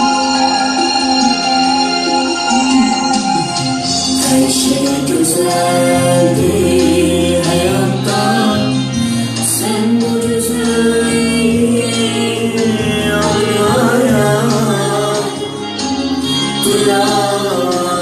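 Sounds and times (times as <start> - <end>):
bass and keyboard notes: 0.0 - 18.0
person singing pop song: 0.0 - 18.0.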